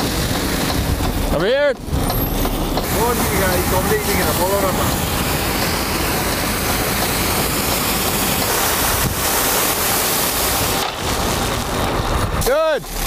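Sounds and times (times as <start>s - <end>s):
water spraying onto windshield: 0.0s - 13.0s.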